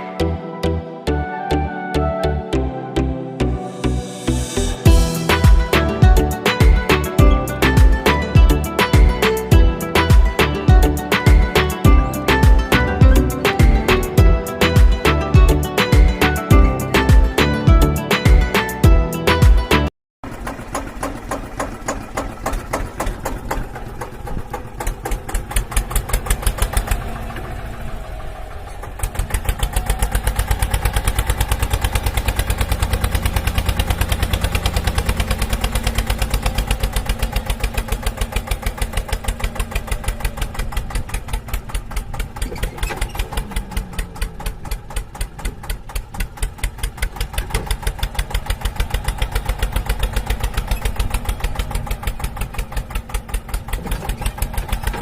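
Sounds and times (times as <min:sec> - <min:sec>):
tractor engine chugging: 0:04.4 - 0:55.0.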